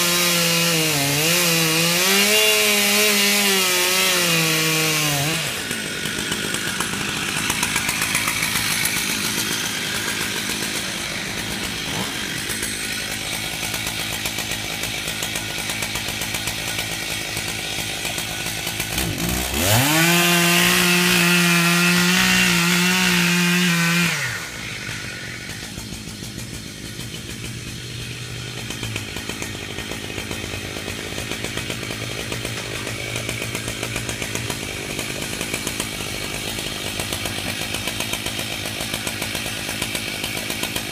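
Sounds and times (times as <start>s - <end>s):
chainsaw running and revving: 0.0s - 40.9s.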